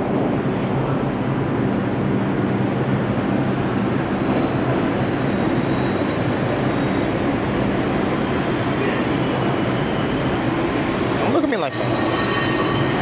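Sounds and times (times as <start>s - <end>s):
subway train noise: 0.0s - 13.0s.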